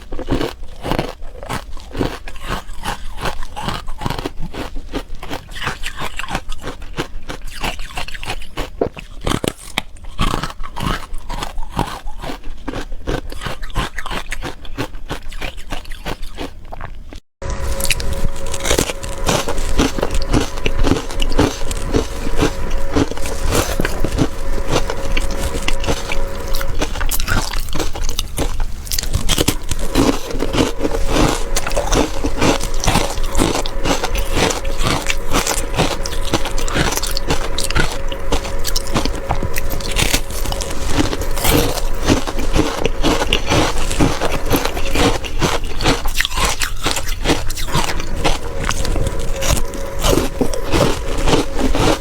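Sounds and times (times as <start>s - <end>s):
person chewing ice: 0.0s - 52.0s.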